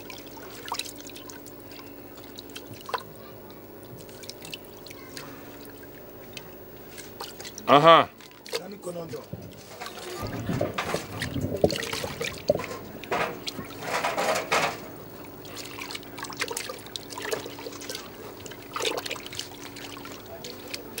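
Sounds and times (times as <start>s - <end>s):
water sloshing in clay pot: 0.0s - 21.0s.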